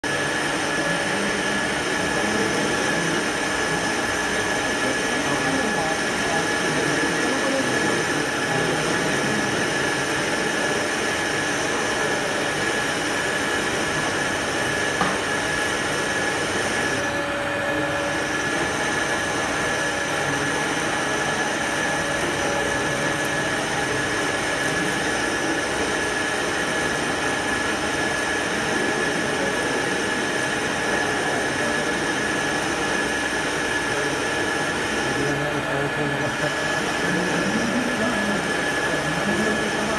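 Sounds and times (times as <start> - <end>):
lathe running: 0.0 - 39.9.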